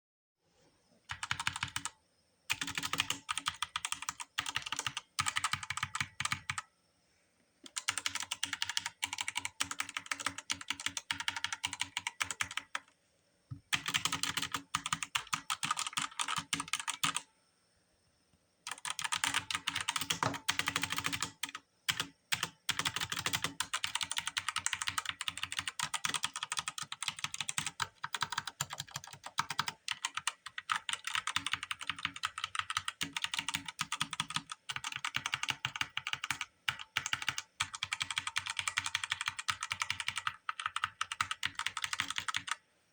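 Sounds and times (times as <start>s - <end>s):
keyboard typing: 1.1s - 1.9s, 2.5s - 6.7s, 7.6s - 12.9s, 13.6s - 17.3s, 18.7s - 42.6s.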